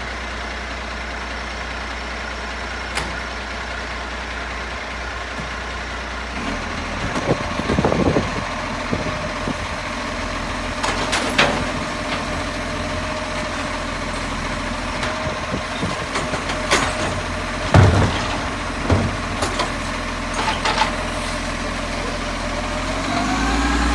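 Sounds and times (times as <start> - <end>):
engine idling with buzzing: 0.0 - 23.9.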